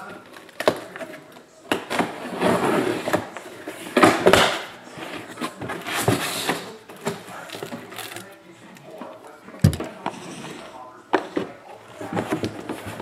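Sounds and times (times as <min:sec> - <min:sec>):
cardboard rustling and scraping: 0:00.1 - 0:13.0.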